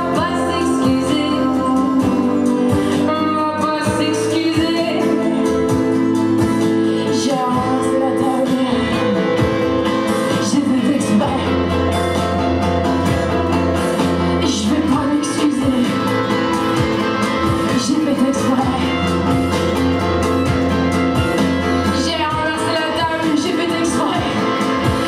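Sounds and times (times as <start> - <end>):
woman singing: 0.0 - 12.7, 14.2 - 19.8, 21.8 - 25.0
strummed acoustic guitar: 0.0 - 25.0.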